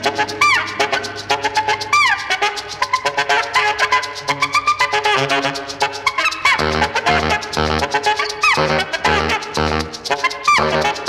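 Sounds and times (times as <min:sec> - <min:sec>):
melody over quick beat: 0:00.0 - 0:09.6.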